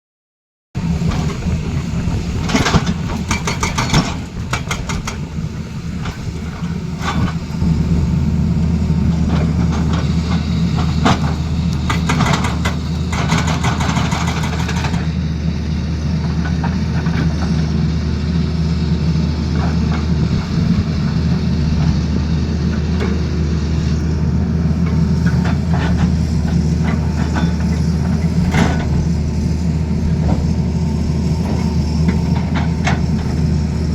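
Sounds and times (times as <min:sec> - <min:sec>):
diesel engine running: 0:00.8 - 0:33.9.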